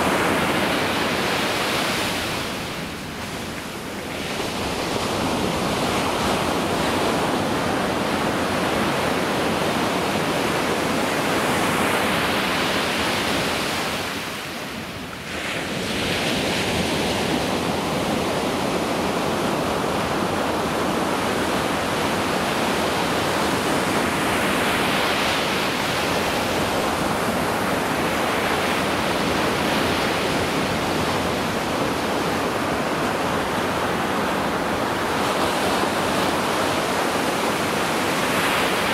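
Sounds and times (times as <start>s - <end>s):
ocean waves breaking on sand: 0.0s - 38.9s.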